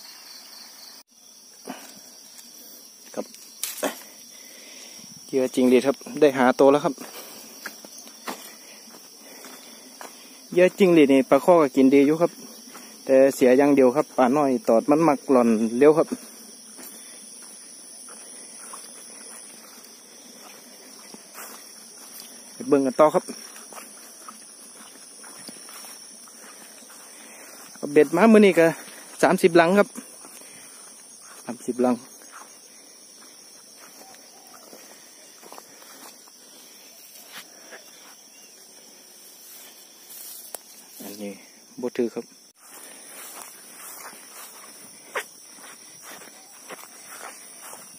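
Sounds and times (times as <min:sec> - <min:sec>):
insects chirring: 0:00.0 - 0:47.9
soft footsteps on grass: 0:01.3 - 0:47.9.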